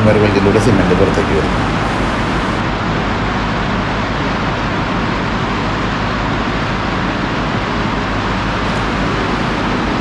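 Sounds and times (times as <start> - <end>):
conveyor machinery rushing noise: 0.0 - 10.0
low machinery hum: 0.0 - 10.0.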